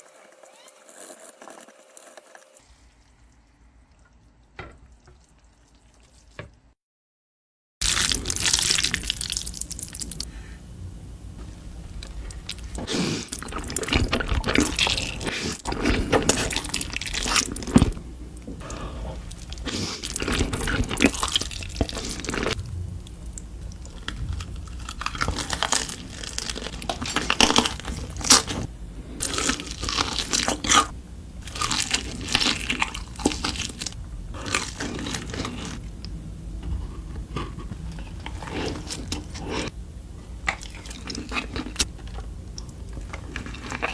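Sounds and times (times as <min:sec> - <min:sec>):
crunchy chewing of fried food: 0:07.8 - 0:10.5, 0:11.4 - 0:43.9.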